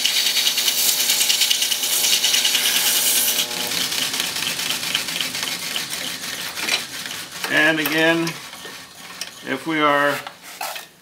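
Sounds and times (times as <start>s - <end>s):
grinder motor hum: 0.0s - 9.7s
blade grinding on abrasive belt: 0.0s - 10.2s.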